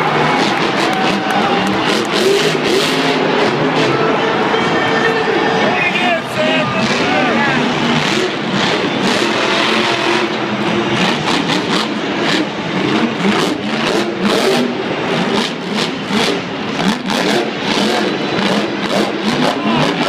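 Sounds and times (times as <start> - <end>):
monster truck engines revving: 0.0 - 20.0.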